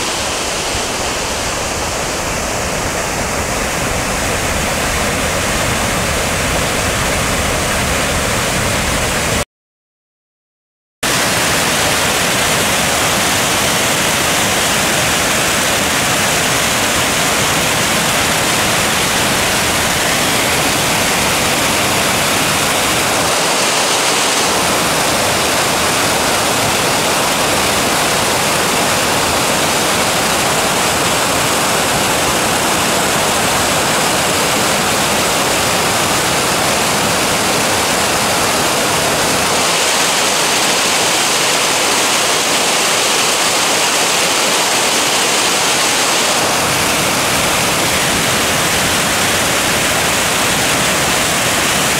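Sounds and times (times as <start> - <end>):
waterfall rushing: 0.0 - 9.4, 11.0 - 51.9.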